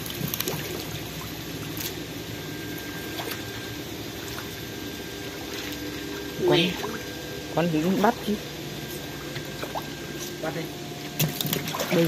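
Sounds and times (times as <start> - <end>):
faint steady hum: 0.0 - 12.0
pond water trickling and sloshing: 0.0 - 12.0.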